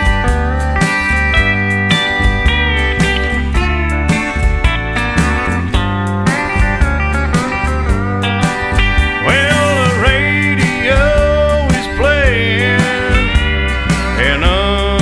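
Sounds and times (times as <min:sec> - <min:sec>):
country music: 0:00.0 - 0:15.0
steady drum beat: 0:00.0 - 0:15.0
steel guitar sliding: 0:00.0 - 0:15.0.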